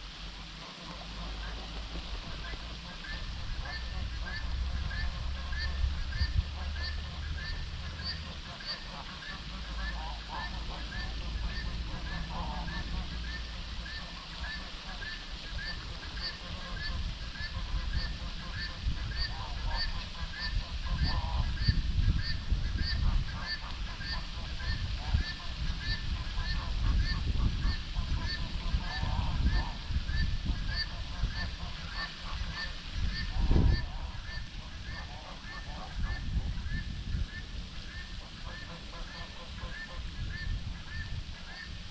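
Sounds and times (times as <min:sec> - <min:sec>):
low wind rumble: 0:00.0 - 0:41.9
honk-like calls: 0:00.6 - 0:41.8.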